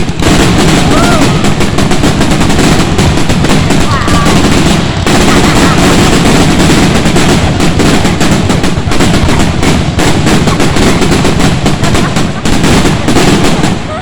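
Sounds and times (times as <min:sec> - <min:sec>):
fireworks crackling bangs: 0:00.0 - 0:14.0.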